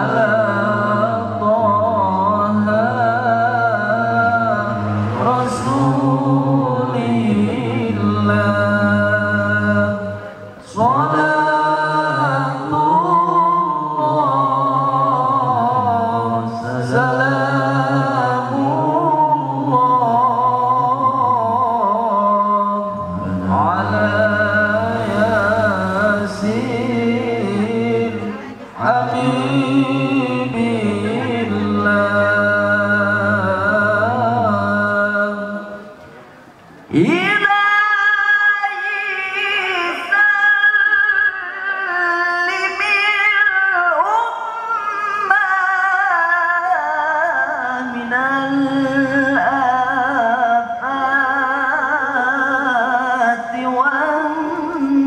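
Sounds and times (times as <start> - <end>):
man chanting melismatic recitation: 0.0 - 36.0, 36.9 - 55.0.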